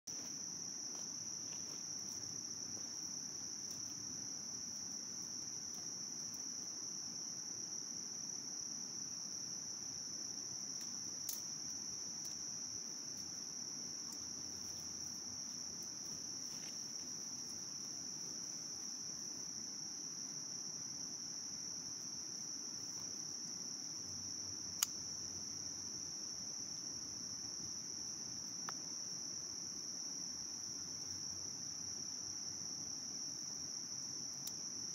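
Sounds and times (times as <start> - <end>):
insects chorus: 0.1 - 34.9.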